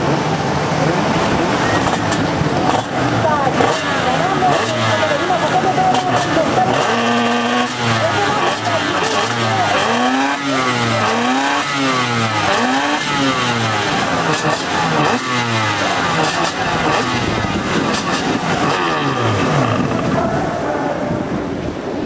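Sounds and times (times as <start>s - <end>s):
jet ski engines revving: 0.0s - 22.0s.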